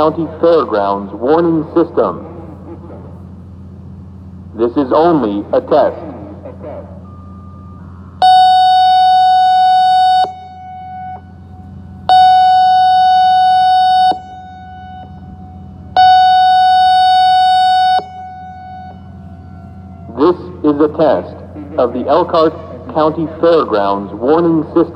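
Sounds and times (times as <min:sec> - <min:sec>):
faint steady tone: 0:00.0 - 0:24.9
warning siren blasts: 0:00.0 - 0:24.9.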